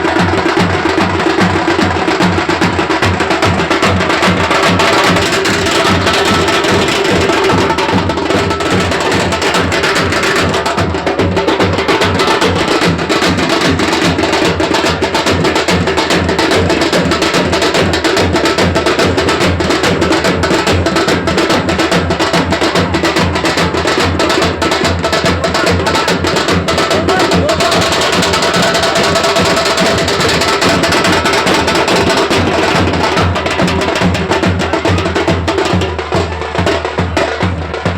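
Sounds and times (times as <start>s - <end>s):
fast drum-heavy music: 0.0s - 37.9s.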